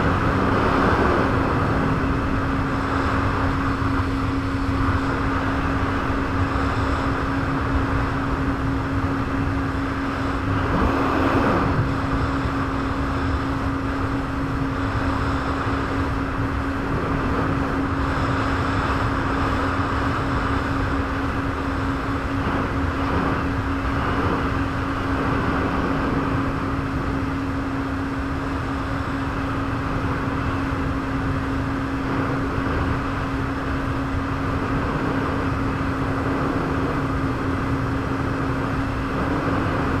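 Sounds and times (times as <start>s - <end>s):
jet ski engine drone: 0.0s - 40.0s.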